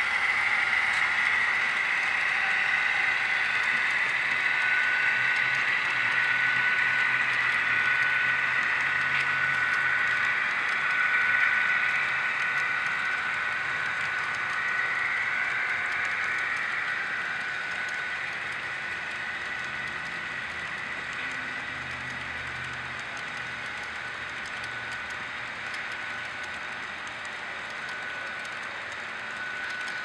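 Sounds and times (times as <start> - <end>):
thin steady whine: 0.0 - 30.0.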